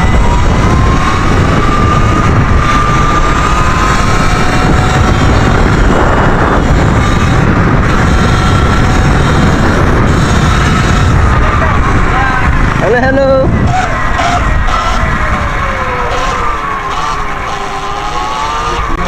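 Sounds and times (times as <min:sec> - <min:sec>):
electric motor whining: 0:00.0 - 0:19.0
wind rumble on microphone: 0:00.0 - 0:19.0.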